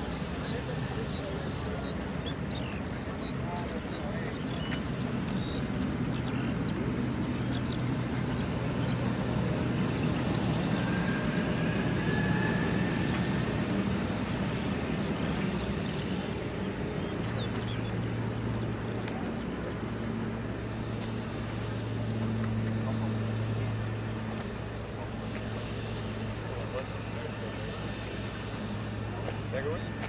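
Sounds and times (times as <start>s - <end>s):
birds chirping: 0.0s - 30.0s
jet engines taxiing: 0.0s - 30.0s.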